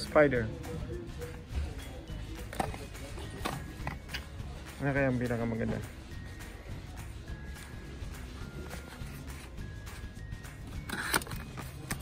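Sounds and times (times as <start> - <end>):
background music low pulse: 0.0 - 12.0.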